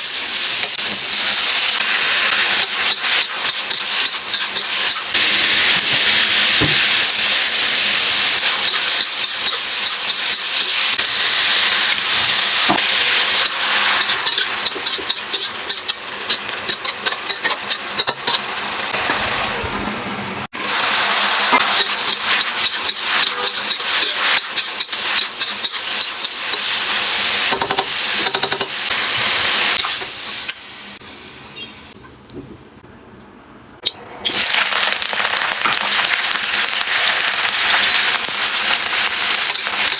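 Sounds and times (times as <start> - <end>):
food sizzling in hot oil: 0.0 - 19.6, 20.5 - 31.0, 34.2 - 39.9.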